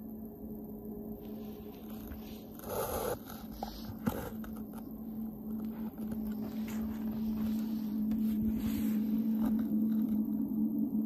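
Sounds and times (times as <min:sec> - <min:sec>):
low mechanical hum: 0:00.0 - 0:11.0
faint rustling: 0:01.2 - 0:10.4.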